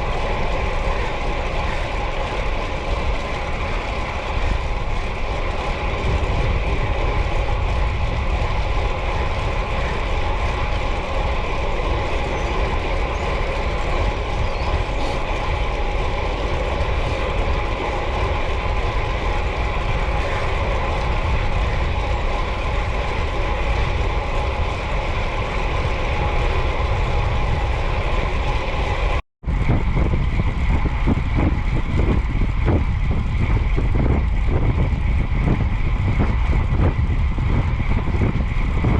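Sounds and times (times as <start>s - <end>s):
bicycle road rumble: 0.0s - 38.9s
steady whine: 0.0s - 38.9s
wind buffeting microphone: 0.0s - 38.9s.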